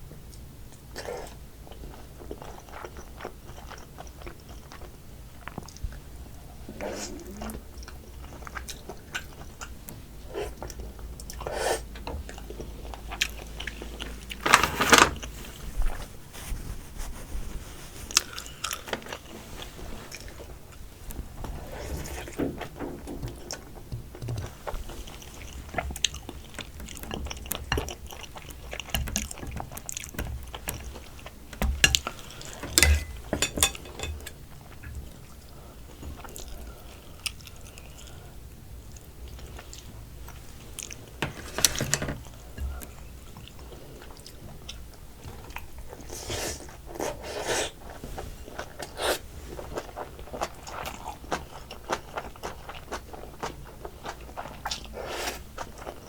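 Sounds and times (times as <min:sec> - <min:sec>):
chewing and crunching: 0:00.3 - 0:06.2, 0:06.8 - 0:14.6, 0:18.0 - 0:56.0.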